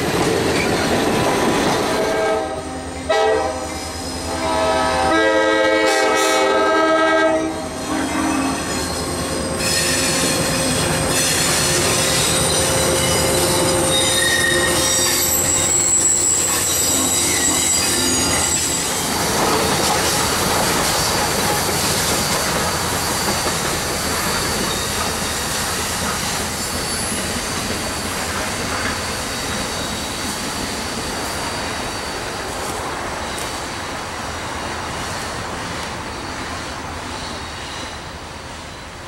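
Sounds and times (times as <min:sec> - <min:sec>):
train rushing past: 0:00.0 - 0:39.0
train wheels squealing: 0:02.9 - 0:04.5, 0:07.4 - 0:39.0.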